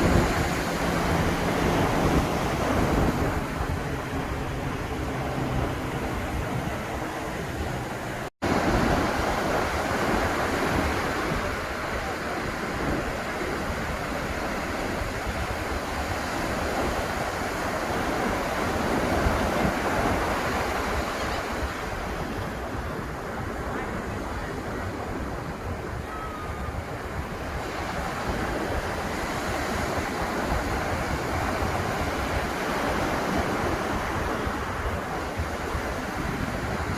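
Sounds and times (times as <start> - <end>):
ocean surf washing onto beach: 0.0 - 36.9
wind buffeting microphone: 0.0 - 36.9.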